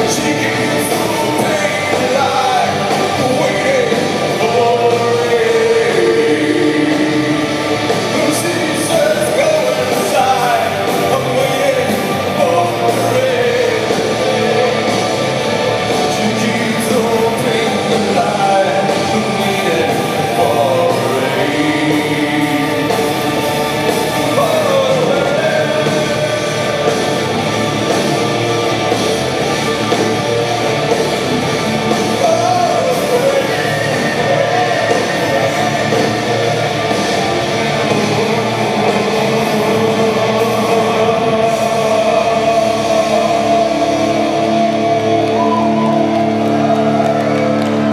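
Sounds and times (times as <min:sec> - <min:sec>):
man singing lead vocal: 0:00.0 - 0:47.2
live rock band playing: 0:00.0 - 0:47.9.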